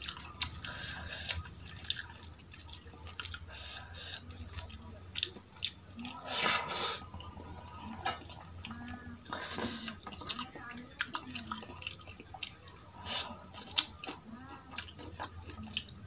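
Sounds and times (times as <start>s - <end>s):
chewing and mouth sounds: 0.0s - 16.0s.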